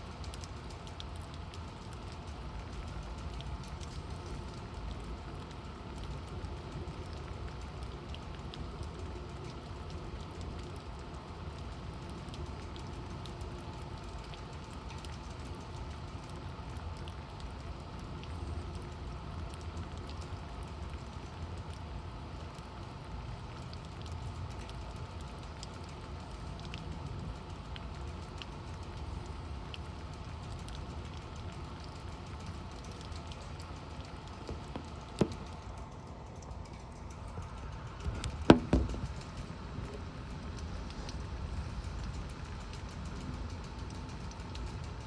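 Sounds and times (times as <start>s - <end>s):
rain falling: 0.0s - 45.0s
raindrops ticking on surfaces: 0.0s - 45.0s.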